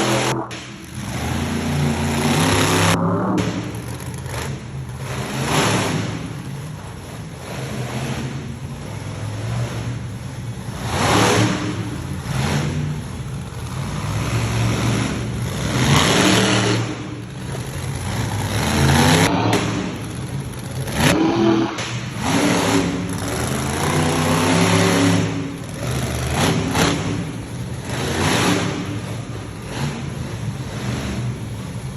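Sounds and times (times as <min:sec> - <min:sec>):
monster truck engines revving: 0:00.0 - 0:31.9.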